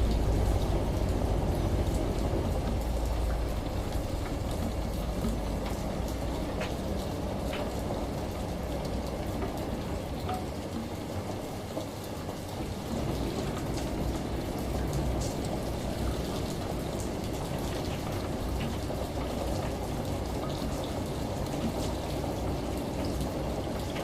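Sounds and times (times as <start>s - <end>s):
sharp drip ticks: 0.0s - 24.0s
steady rain: 0.0s - 24.0s.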